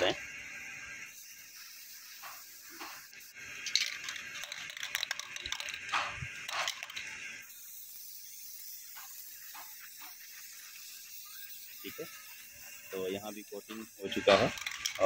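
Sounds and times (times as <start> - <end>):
aerosol can spraying hiss: 0.0 - 15.0.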